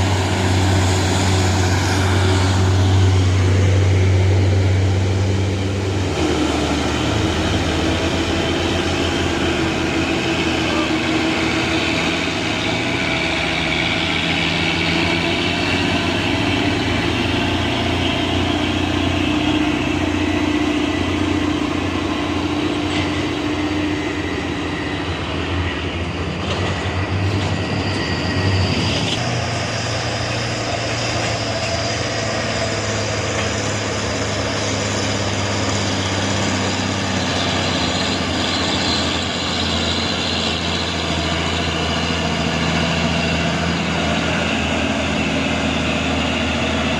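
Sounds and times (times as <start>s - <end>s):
truck diesel engines climbing: 0.0s - 46.9s.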